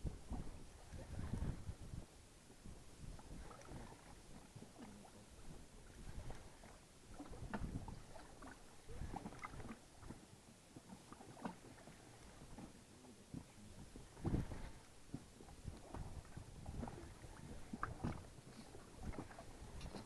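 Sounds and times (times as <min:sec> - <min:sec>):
knocks and creaks in a boat: 0:00.0 - 0:20.0.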